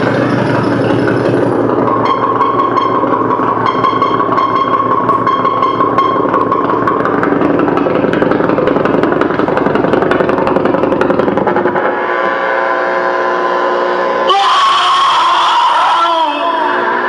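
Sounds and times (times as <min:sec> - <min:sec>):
harsh electronic noise: 0:00.0 - 0:17.0
held buzzing tones: 0:00.0 - 0:17.0.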